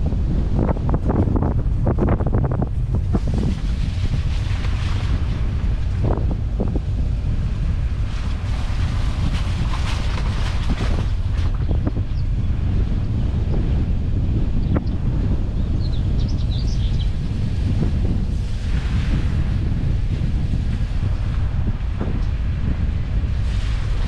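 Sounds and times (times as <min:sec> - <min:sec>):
low road rumble: 0:00.0 - 0:24.0
wind buffeting microphone: 0:00.0 - 0:24.0.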